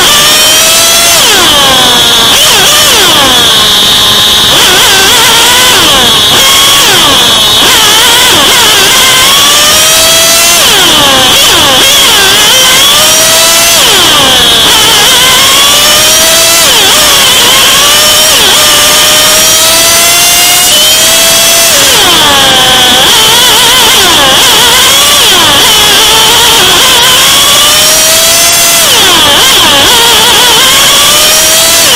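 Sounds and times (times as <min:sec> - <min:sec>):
model car engine revving: 0:00.0 - 0:31.9.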